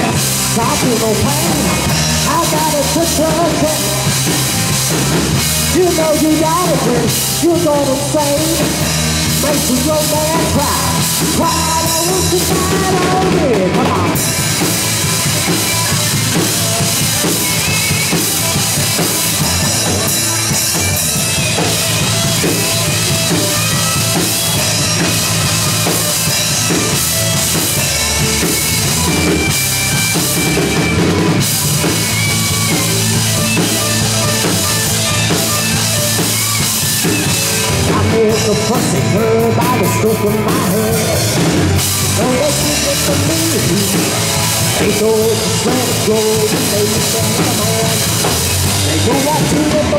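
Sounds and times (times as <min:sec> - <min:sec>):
bass drum and snare beat: 0:00.0 - 0:49.9
electric guitars: 0:00.0 - 0:49.9.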